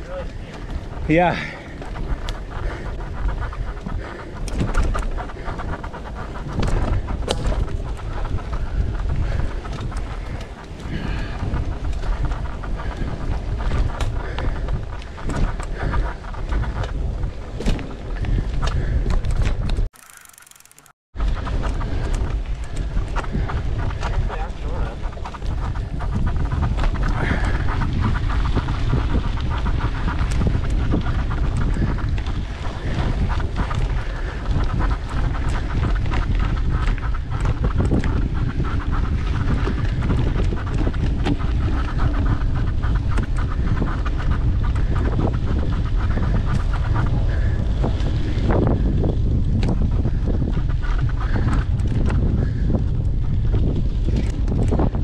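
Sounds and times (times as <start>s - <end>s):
bike rattling over ground: 0.0s - 55.0s
wind buffeting microphone: 0.0s - 55.0s.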